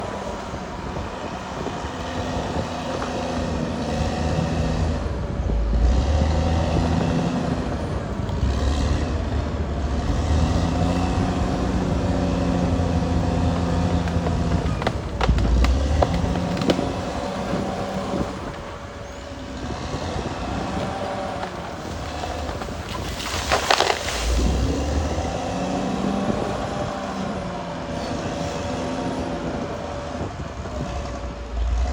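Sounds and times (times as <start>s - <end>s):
bulldozer diesel engine working hard: 0.0s - 23.5s, 24.2s - 31.9s.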